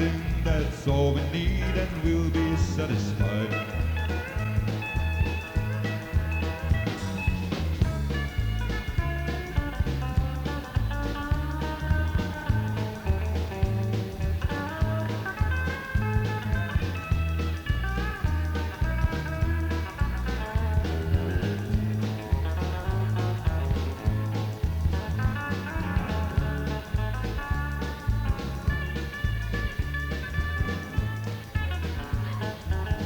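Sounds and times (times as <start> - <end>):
bass guitar: 0.0 - 33.0
drums: 0.0 - 33.0
electric guitar: 0.0 - 33.0
pedal steel guitar: 0.0 - 33.0.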